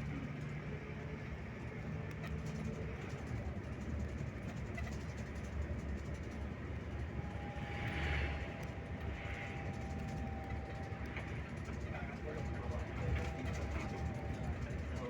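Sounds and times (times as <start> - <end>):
coach engine rumble: 0.0 - 15.0
wind and tyre noise: 0.0 - 15.0.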